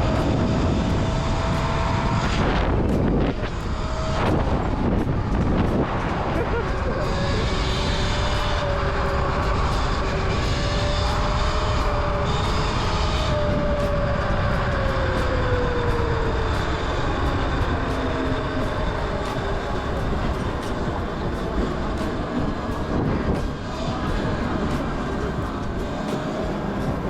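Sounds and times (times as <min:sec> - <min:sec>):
electric motor whine: 0:00.0 - 0:27.0
wind and road rush: 0:00.0 - 0:27.0.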